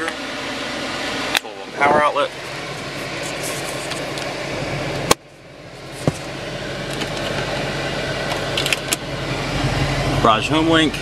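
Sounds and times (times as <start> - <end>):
car interior hum: 0.0 - 11.0.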